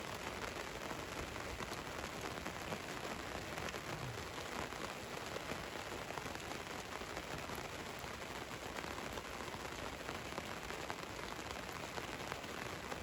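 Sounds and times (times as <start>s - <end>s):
rain on a vehicle roof: 0.0s - 13.0s.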